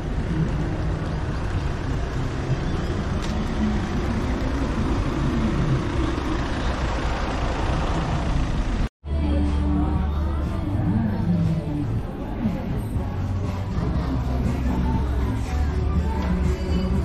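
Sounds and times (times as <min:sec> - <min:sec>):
car engines passing: 0:00.0 - 0:17.0
steady outdoor rumble: 0:00.0 - 0:17.0.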